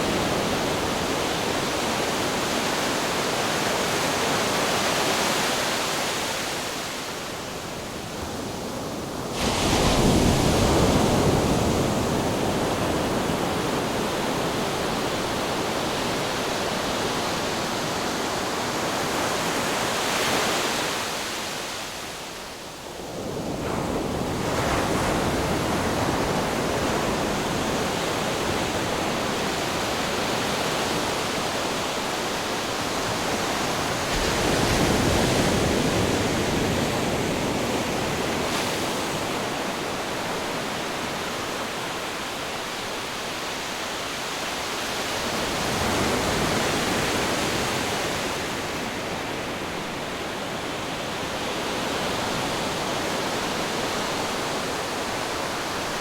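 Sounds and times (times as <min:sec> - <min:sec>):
wind: 0:00.0 - 0:56.0.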